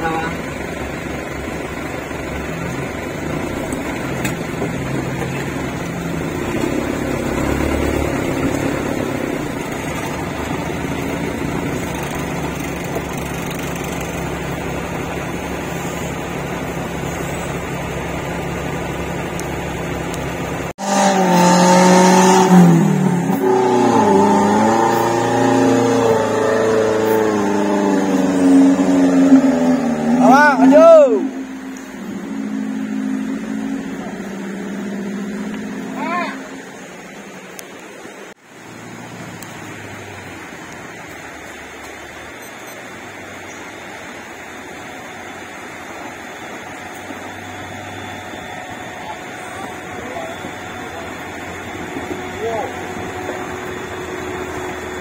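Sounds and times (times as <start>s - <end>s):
engine revving outdoors: 0.0s - 55.0s
off-road vehicle engine under load: 0.0s - 55.0s.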